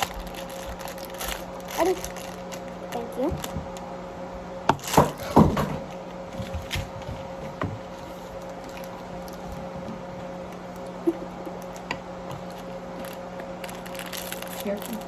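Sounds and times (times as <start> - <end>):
plastic packaging clicks and rustles: 0.0 - 3.9, 4.8 - 15.0
steady low hum: 0.0 - 15.0.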